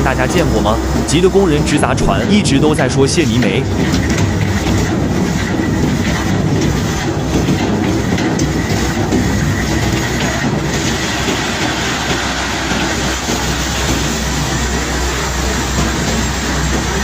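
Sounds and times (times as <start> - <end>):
bulk cargo clattering: 0.0 - 17.0
heavy machinery rumbling: 0.0 - 17.0.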